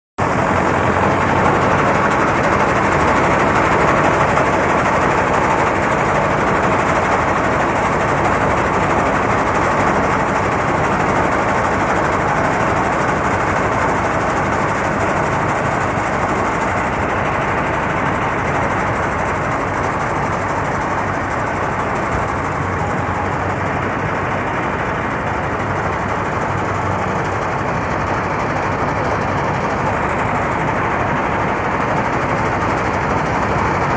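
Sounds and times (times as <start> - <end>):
combine harvester running: 0.2 - 33.9.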